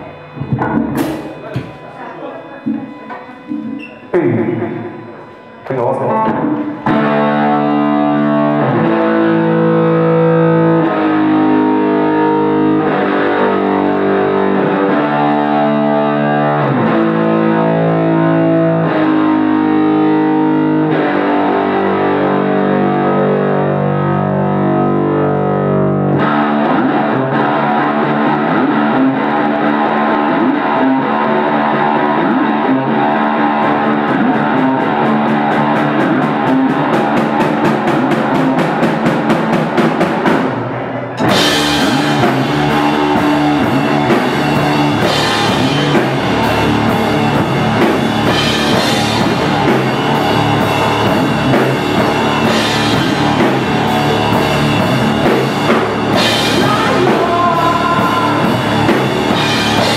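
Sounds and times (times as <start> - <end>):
drum kit: 0.0 - 2.0, 6.2 - 25.0, 26.0 - 59.9
electric guitar: 0.0 - 59.9.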